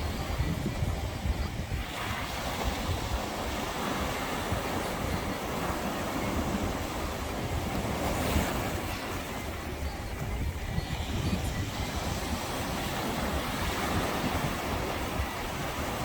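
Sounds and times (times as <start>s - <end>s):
waves breaking against rocks: 0.0s - 16.0s
wind buffeting microphone: 0.0s - 16.0s.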